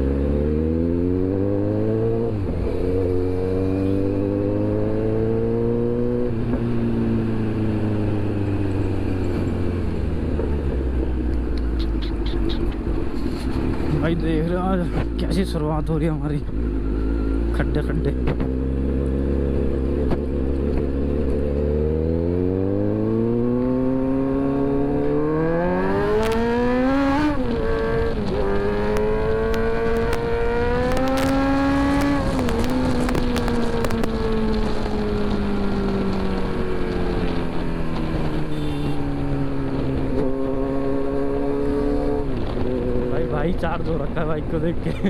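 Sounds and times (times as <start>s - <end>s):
motorcycle engine accelerating: 0.0s - 15.2s, 16.4s - 44.9s.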